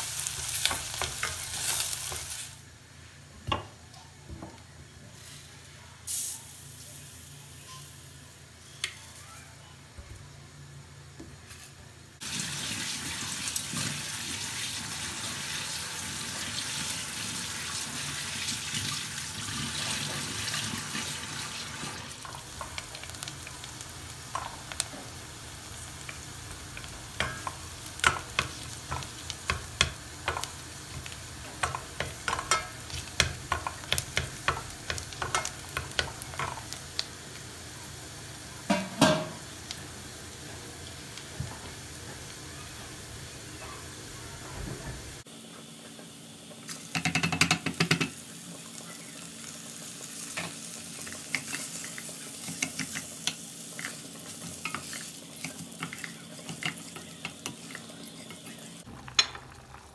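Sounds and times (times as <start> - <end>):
food sizzling in a hot pan: 0.0 - 2.7, 5.2 - 8.5, 12.2 - 45.3, 46.6 - 59.9.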